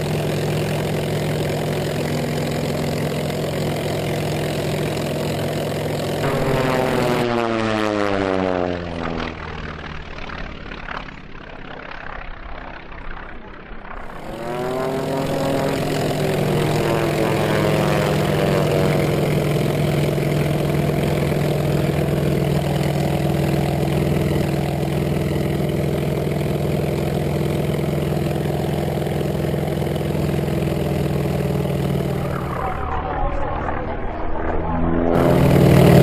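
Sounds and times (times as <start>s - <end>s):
electric motor propeller drone: 0.0s - 36.0s.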